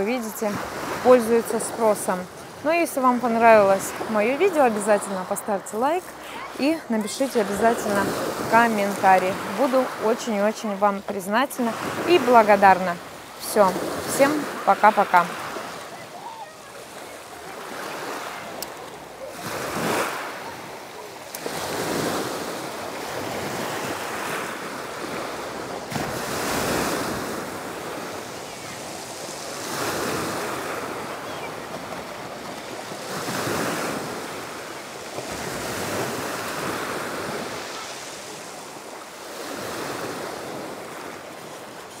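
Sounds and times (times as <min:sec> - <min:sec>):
waves breaking on shore: 0:00.0 - 0:42.0.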